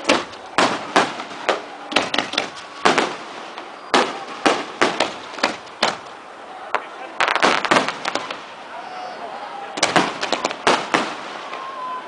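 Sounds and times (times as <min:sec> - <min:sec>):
firecrackers banging: 0:00.0 - 0:09.0, 0:09.6 - 0:11.9.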